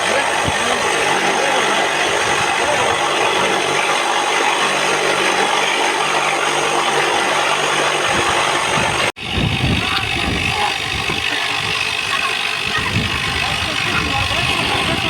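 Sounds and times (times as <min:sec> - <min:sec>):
noisy rattle: 0:00.0 - 0:15.0.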